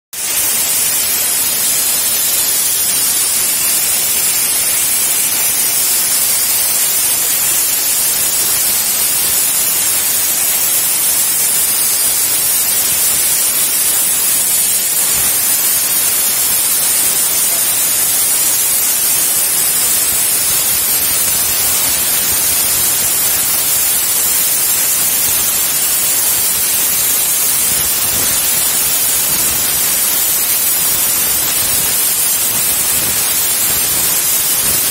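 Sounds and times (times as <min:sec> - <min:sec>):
plasma cutter hissing: 0:00.2 - 0:34.9.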